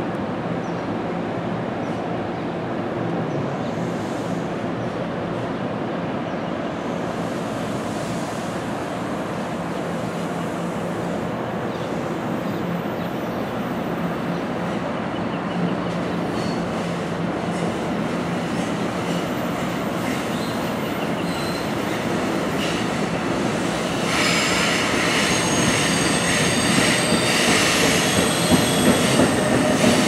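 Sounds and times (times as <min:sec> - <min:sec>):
train wheels rumbling on rails: 0:00.2 - 0:30.0.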